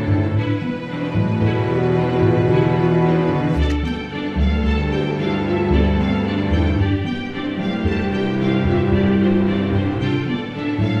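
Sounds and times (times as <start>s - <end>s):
orchestral string notes: 0.0s - 11.0s.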